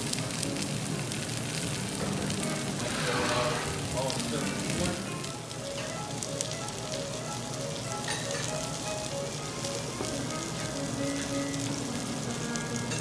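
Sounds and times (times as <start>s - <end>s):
food sizzling on a grill: 0.0s - 13.0s
soft background music: 0.0s - 13.0s.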